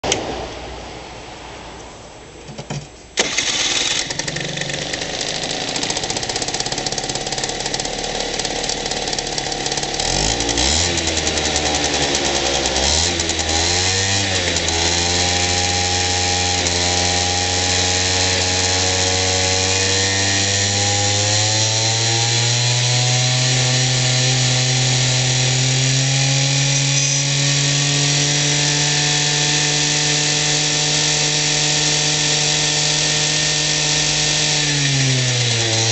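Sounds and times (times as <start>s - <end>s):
scooter engine starting and idling: 2.5s - 35.9s
scooter engine revving: 3.2s - 35.9s.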